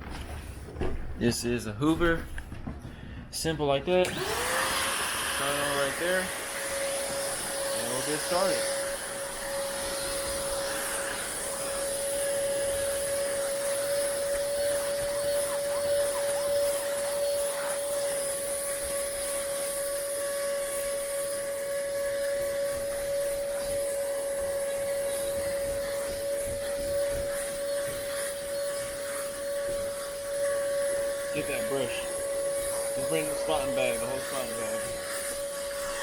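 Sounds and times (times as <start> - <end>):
vacuum cleaner running: 3.4 - 36.0.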